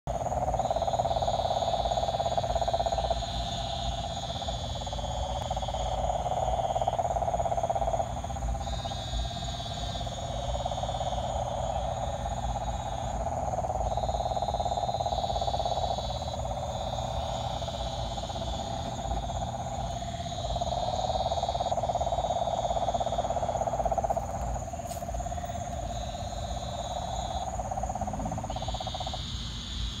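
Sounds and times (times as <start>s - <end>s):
frogs high pulsed trills: 0.1s - 30.0s
frogs low droning trill: 0.1s - 30.0s.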